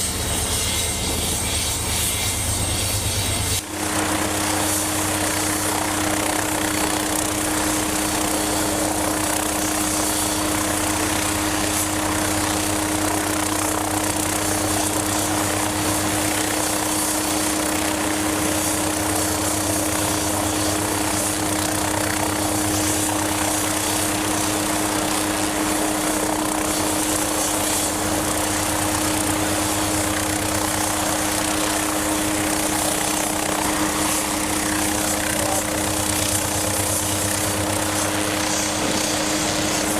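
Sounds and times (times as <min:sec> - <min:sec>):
helicopter engine and rotor running: 0:00.0 - 0:39.9.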